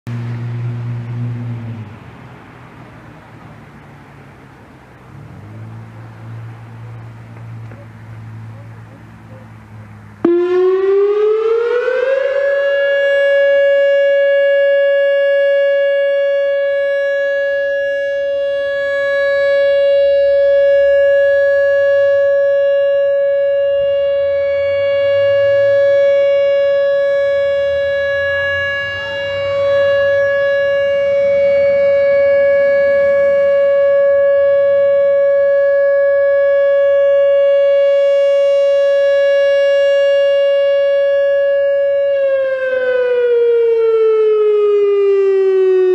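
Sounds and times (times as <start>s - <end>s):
warning siren steady tone: 0.1s - 45.9s.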